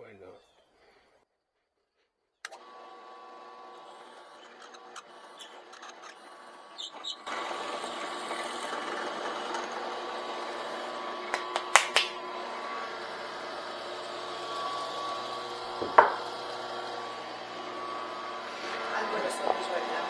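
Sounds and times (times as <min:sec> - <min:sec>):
power tool motor whining: 0:02.5 - 0:20.0.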